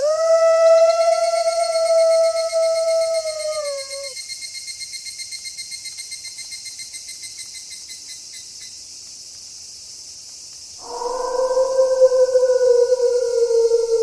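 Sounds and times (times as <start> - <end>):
crickets chirping: 0.0 - 14.0
high hiss of night ambience: 0.0 - 14.0.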